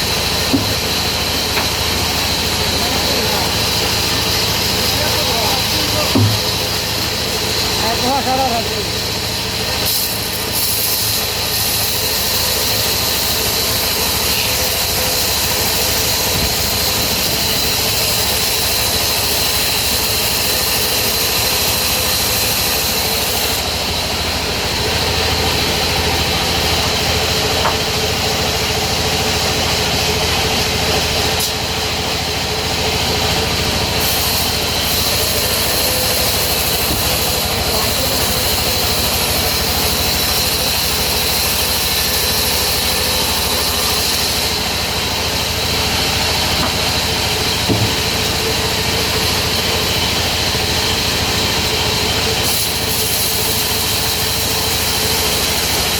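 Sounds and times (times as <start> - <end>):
high machine whine: 0.0 - 55.9
sawmill machinery running: 0.0 - 55.9.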